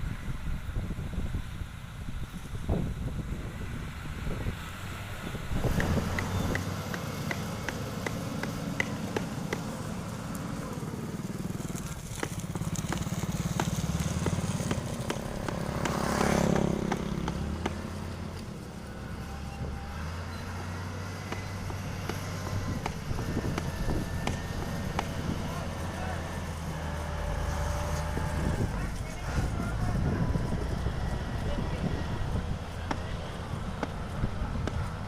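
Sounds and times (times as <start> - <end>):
heavy machinery engines rumbling: 0.0 - 35.0.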